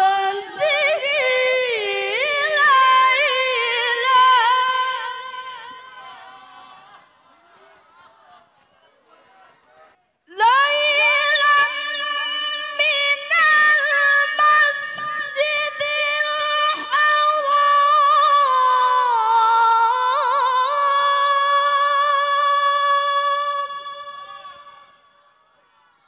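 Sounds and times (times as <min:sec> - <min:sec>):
woman reciting melodically: 0:00.0 - 0:06.0, 0:10.3 - 0:25.2.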